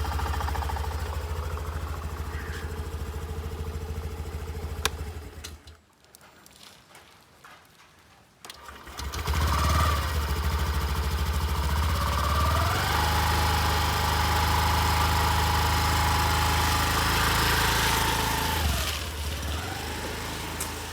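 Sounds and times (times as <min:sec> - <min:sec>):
scooter engine revving: 0:00.0 - 0:05.6, 0:08.6 - 0:20.9
scooter engine idling: 0:00.0 - 0:05.7, 0:08.6 - 0:20.9.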